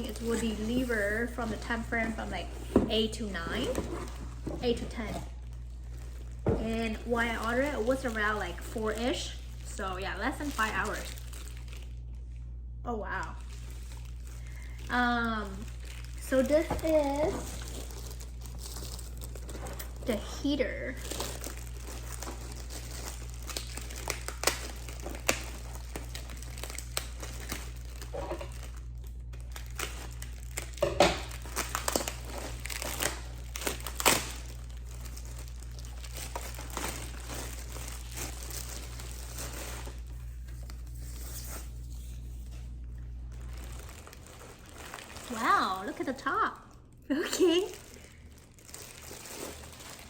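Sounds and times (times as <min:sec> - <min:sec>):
plastic packaging crinkling and tearing: 0:00.0 - 0:50.0.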